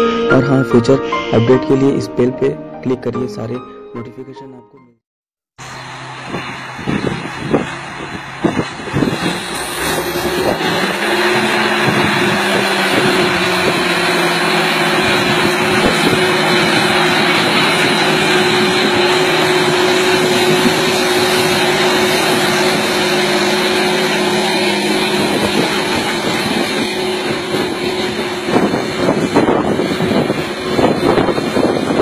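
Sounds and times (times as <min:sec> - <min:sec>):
tractor diesel engine running: 0:05.6 - 0:32.0.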